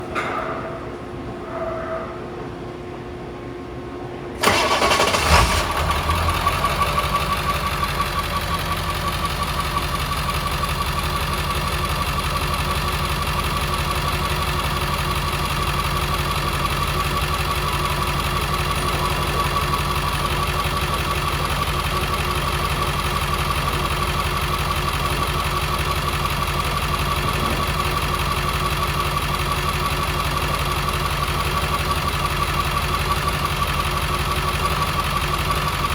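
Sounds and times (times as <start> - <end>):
diesel engine idling: 4.4 - 35.9
engine starter cranking: 4.4 - 35.9.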